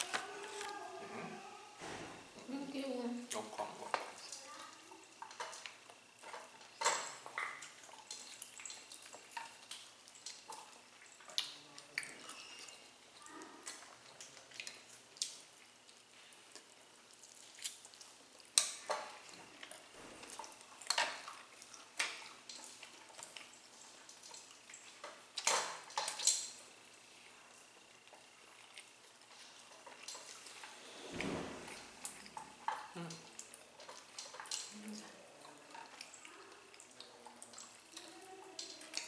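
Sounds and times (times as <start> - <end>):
chewing sounds: 3.2 - 30.9, 31.8 - 39.0.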